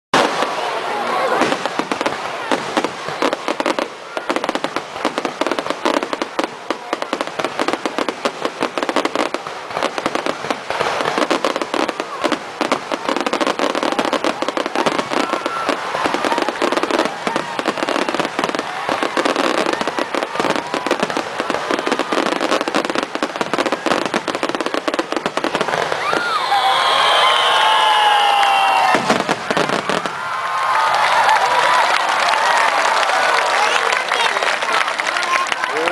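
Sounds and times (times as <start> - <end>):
fireworks crackling: 0.1 - 35.9.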